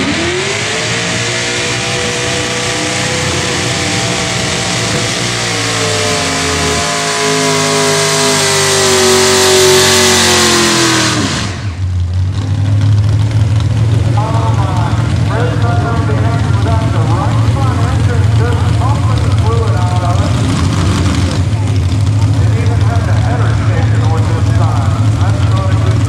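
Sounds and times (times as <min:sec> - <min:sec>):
tractor engines at full throttle: 0:00.0 - 0:26.0.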